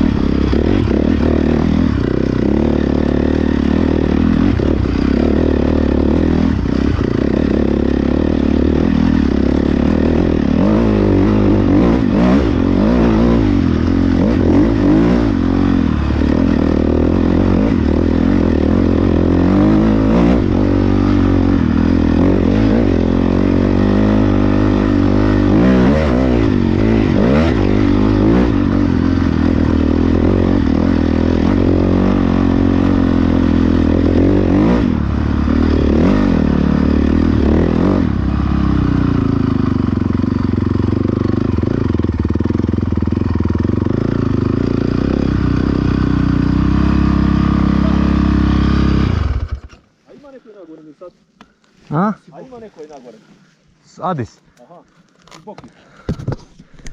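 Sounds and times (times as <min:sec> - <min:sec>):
dirt bike engines revving: 0:00.0 - 0:56.9.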